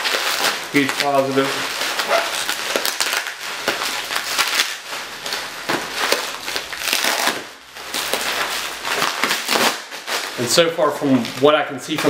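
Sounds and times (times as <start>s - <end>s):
packing material crinkling: 0.0s - 12.0s.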